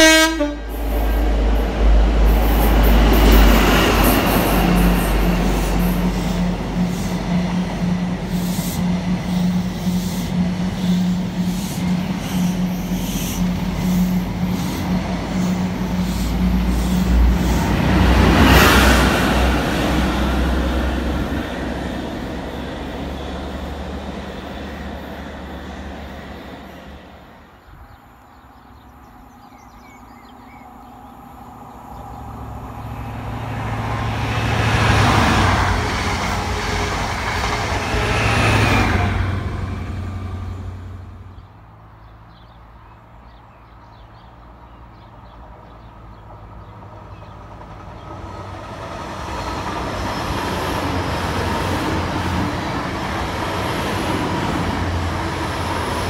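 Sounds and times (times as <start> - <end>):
train wheels rumbling on rails: 0.0 - 41.6, 44.0 - 56.0
diesel train engine drone: 0.0 - 42.2, 44.5 - 56.0.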